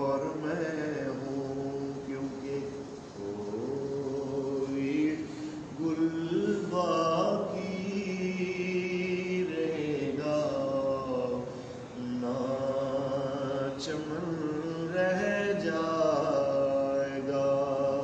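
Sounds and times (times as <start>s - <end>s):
man singing devotional verse: 0.0s - 18.0s.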